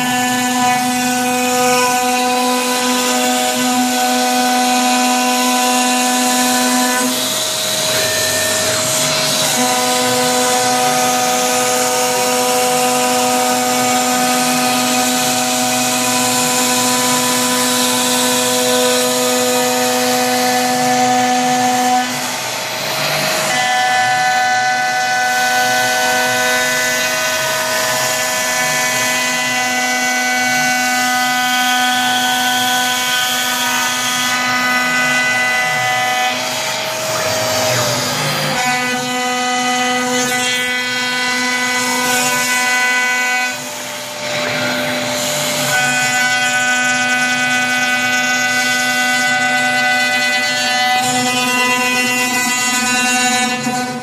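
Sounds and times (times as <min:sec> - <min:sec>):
router spindle whining: 0:00.0 - 0:54.0.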